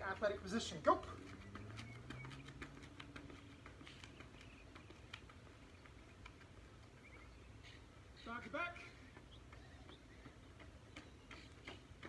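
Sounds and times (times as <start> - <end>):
sneakers scuffing on pavement: 0.0 - 6.8, 8.2 - 12.0.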